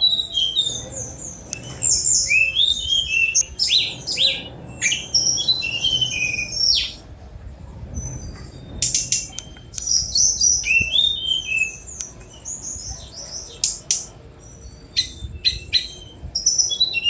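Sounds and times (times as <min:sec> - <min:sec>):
bird singing chirps and whistles: 0:00.0 - 0:07.0, 0:08.0 - 0:17.0.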